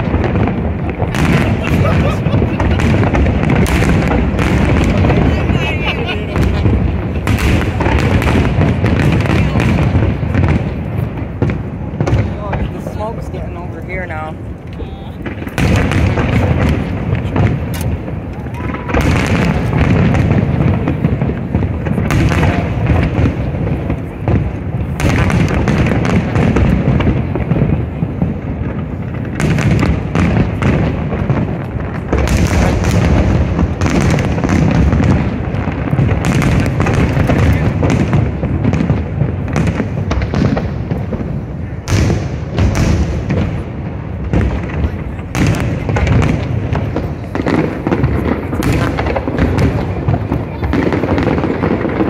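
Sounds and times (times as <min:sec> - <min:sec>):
fireworks booms and bangs: 0:00.0 - 0:52.0.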